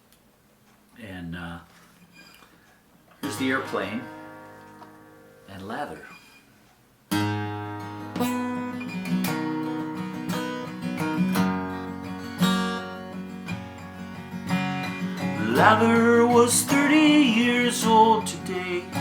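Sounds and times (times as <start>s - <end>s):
acoustic guitar strumming: 2.0s - 19.0s.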